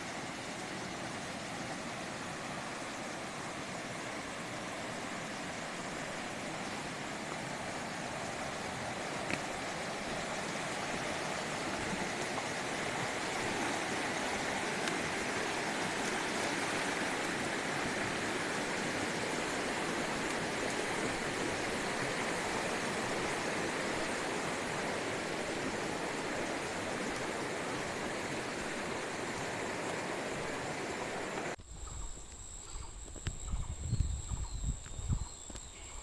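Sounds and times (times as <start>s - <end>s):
river water rushing: 0.0s - 31.6s.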